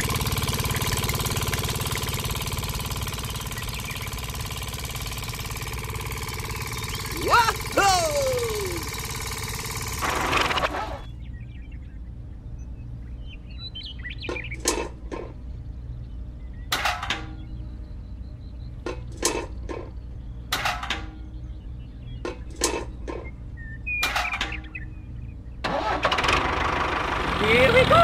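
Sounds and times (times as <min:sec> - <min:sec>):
steady low hum: 0:00.0 - 0:25.7.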